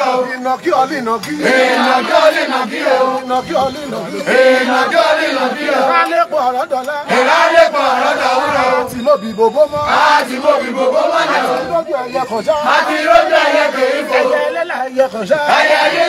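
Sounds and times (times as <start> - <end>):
men and boys chanting: 0.0 - 16.0.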